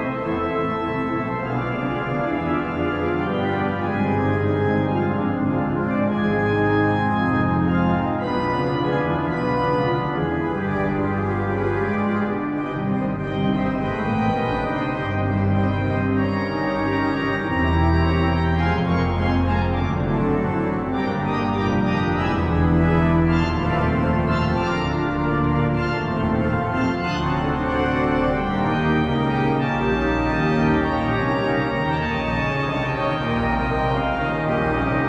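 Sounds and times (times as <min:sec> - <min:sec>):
organ playing chords: 0:00.0 - 0:35.0.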